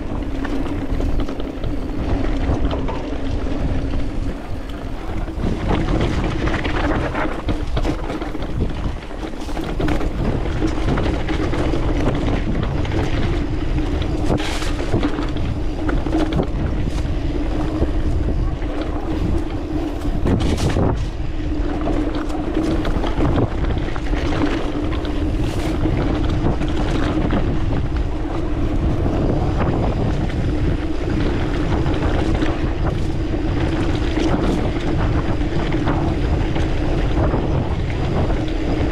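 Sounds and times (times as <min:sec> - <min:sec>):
bike rattling on rocky trail: 0:00.0 - 0:38.9
wind on microphone: 0:00.0 - 0:38.9.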